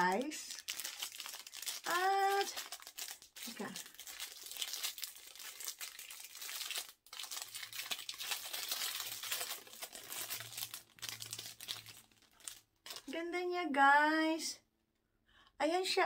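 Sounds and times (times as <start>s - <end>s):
packaging crinkling: 0.0s - 13.1s.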